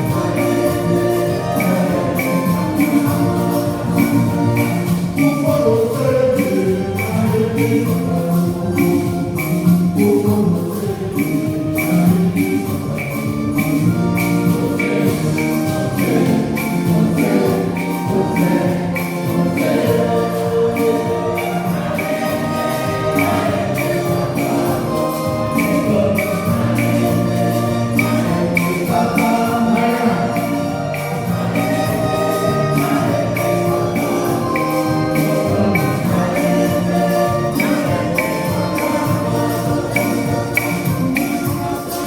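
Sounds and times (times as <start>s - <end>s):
percussion beat: 0.0s - 42.0s
voices singing gospel: 0.0s - 42.0s.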